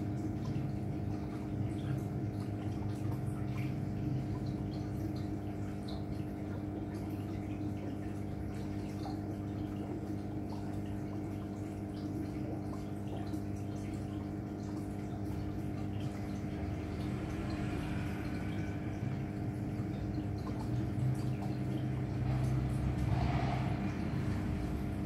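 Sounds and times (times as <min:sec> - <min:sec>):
faint dripping: 0:00.0 - 0:25.0
pump motor humming: 0:00.0 - 0:25.0
water trickling: 0:00.0 - 0:25.0.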